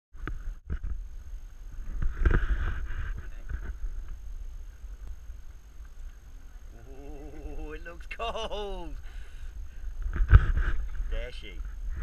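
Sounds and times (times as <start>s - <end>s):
wind on microphone: 0.2s - 8.1s, 8.7s - 12.0s.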